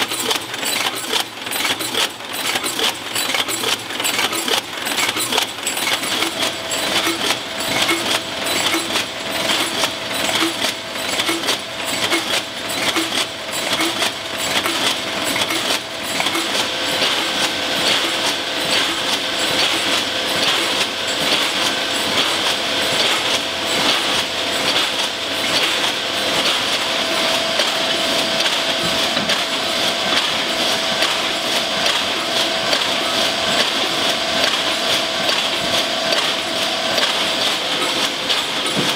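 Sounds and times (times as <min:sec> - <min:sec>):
metallic clatter of cans in machinery: 0:00.0 - 0:38.9.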